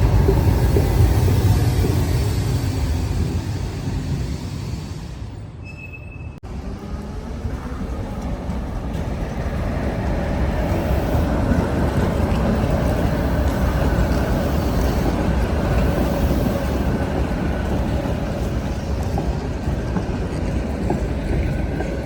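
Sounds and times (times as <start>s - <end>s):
tram rumbling on track: 0.0s - 22.0s.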